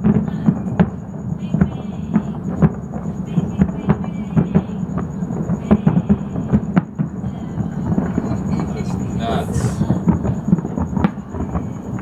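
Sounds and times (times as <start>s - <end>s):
fireworks popping and banging: 0.0s - 12.0s
rumble of distant fireworks: 0.0s - 12.0s.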